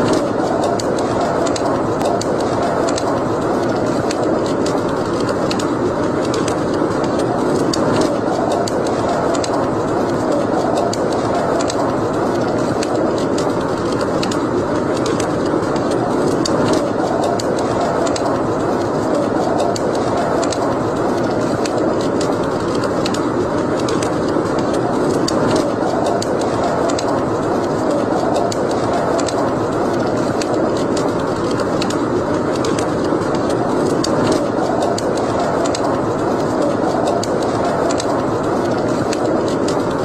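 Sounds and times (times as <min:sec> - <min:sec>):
fire crackles and pops: 0:00.0 - 0:40.0
wood fire rushing: 0:00.0 - 0:40.0.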